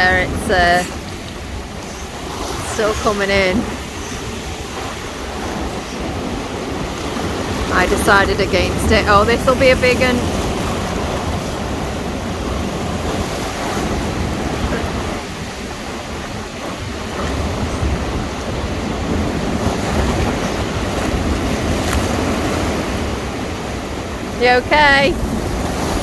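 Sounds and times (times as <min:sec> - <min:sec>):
waves crashing: 0:00.0 - 0:26.0
wind on microphone: 0:00.0 - 0:26.0.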